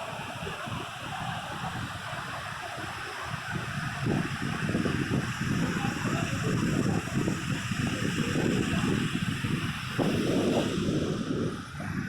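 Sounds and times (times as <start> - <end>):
sea surf washing onto beach: 0.0 - 12.0
wind rumble on microphone: 0.0 - 12.0.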